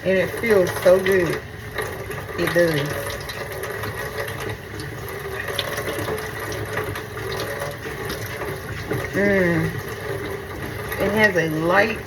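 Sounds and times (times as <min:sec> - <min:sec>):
sink tap running: 0:00.0 - 0:12.0.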